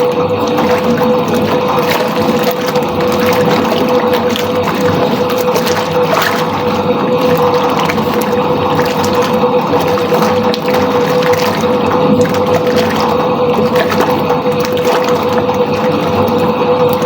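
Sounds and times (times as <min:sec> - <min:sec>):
washing machine motor humming: 0:00.0 - 0:17.0
water sloshing in tub: 0:00.0 - 0:17.0.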